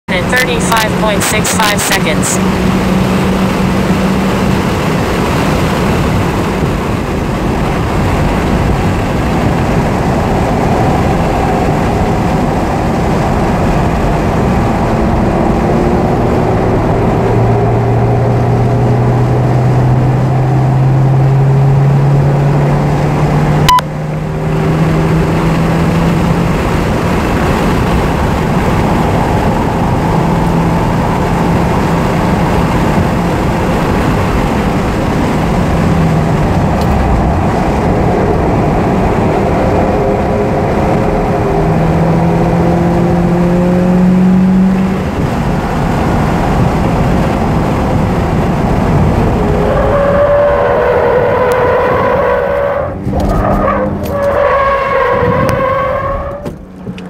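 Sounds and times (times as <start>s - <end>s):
wind and road noise: 0.0s - 57.0s
car engine accelerating: 0.1s - 57.0s.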